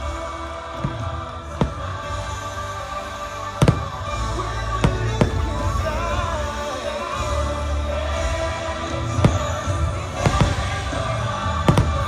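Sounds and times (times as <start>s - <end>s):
orchestral soundtrack: 0.0s - 12.0s.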